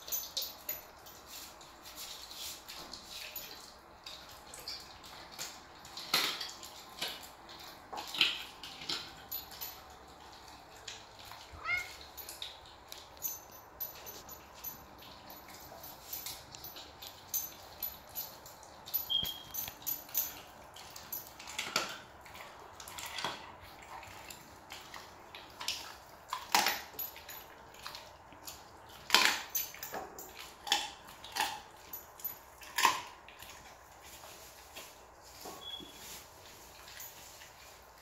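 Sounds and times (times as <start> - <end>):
dog crunching bone: 2.2 - 35.0.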